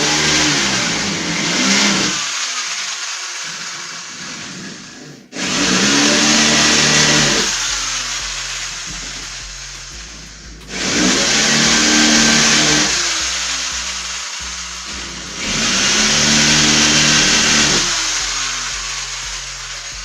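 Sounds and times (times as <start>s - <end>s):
power tool spinning: 0.0s - 20.0s.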